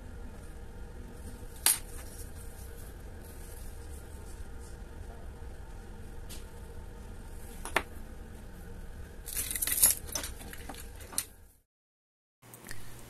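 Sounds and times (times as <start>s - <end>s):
low steady hum: 0.0s - 11.6s.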